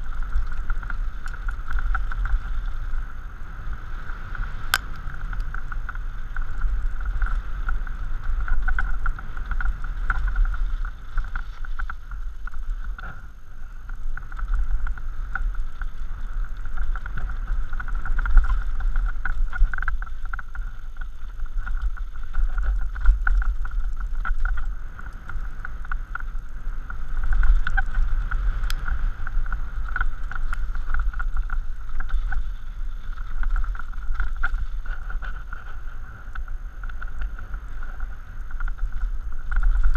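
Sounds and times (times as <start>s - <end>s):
steady high buzz from bike: 0.0s - 39.9s
tyres rolling over dirt and stones: 0.0s - 39.9s
wind rushing over microphone: 0.0s - 39.9s.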